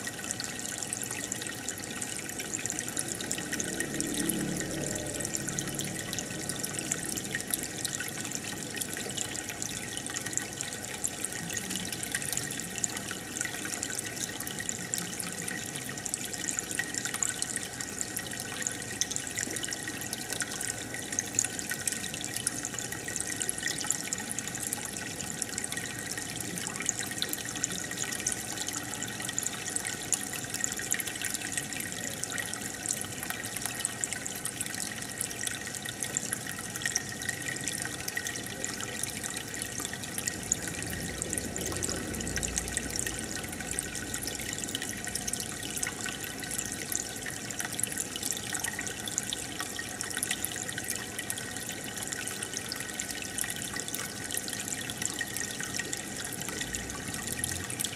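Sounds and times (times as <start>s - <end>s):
aquarium water bubbling: 0.0s - 57.9s.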